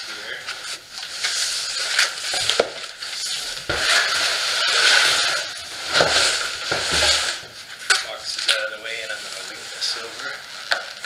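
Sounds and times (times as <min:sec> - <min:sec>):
foam and cardboard rustling: 0:00.1 - 0:11.0.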